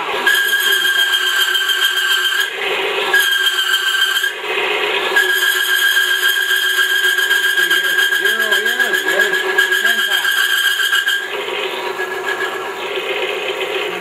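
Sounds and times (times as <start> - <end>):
electric motor running: 0.0 - 14.0
high-pitched metal squeal: 0.1 - 4.5, 5.1 - 13.0.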